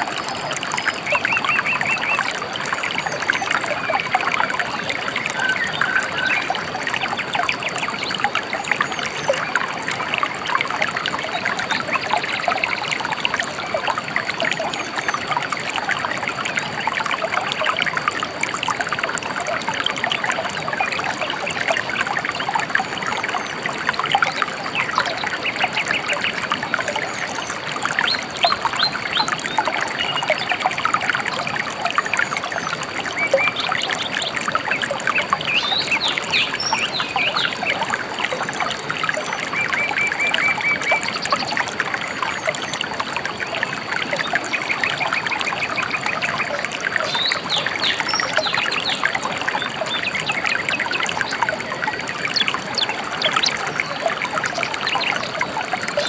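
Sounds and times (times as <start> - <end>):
shallow river babbling over stones: 0.0 - 56.0.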